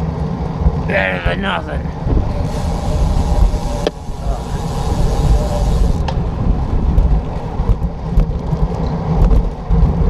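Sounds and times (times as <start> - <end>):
traffic noise: 0.0 - 10.0
wind buffeting microphone: 1.8 - 10.0.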